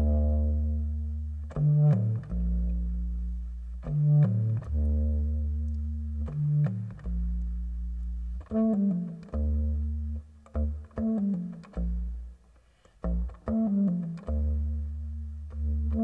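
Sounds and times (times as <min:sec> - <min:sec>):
contrabass clarinet melody: 0:00.0 - 0:12.3, 0:13.0 - 0:16.0.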